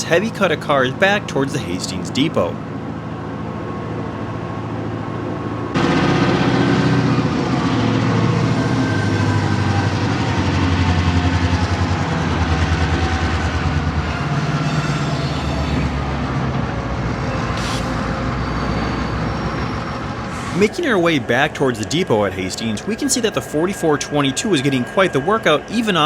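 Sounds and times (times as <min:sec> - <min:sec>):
diesel locomotive throbbing: 0:00.0 - 0:26.0.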